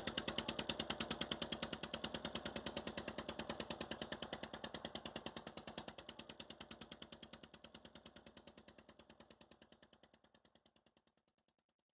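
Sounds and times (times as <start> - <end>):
motorboat engine knocking: 0.0 - 10.8.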